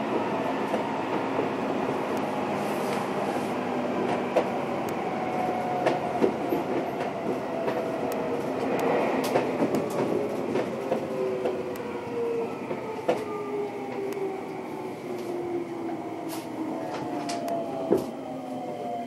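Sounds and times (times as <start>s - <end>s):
rail joint clicks: 0.0s - 18.2s
wheels rumbling on rail: 0.0s - 19.0s.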